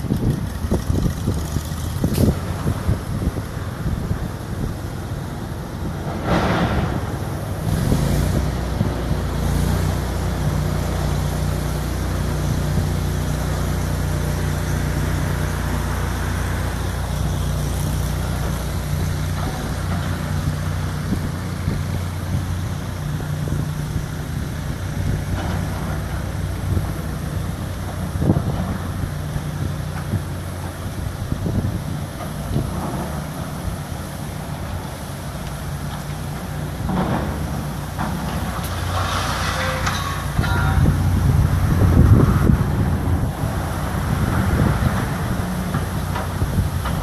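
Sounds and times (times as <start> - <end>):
wind noise on microphone: 0.0 - 35.8, 36.5 - 47.0
large engine running: 0.0 - 47.0.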